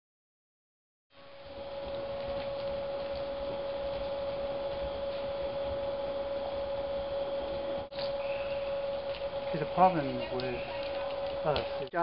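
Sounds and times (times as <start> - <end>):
constant mid-pitched hum: 1.2 - 12.0.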